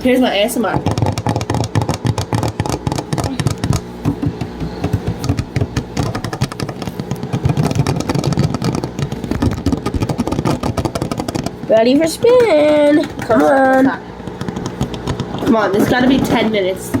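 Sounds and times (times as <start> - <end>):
drum clicking and rattling: 0.0 - 17.0
washing machine motor hum: 0.0 - 17.0.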